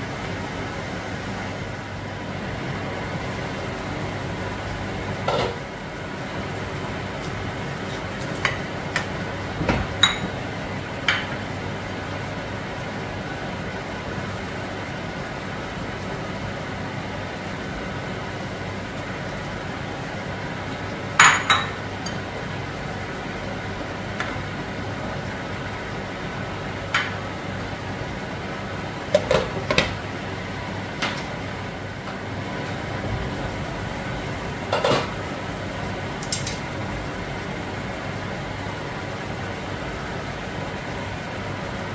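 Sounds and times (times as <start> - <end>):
steady hum and hiss: 0.0 - 41.9.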